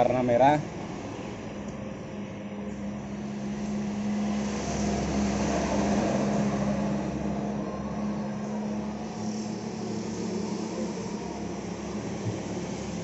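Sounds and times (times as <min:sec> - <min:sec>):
steady motor drone: 0:00.0 - 0:13.0.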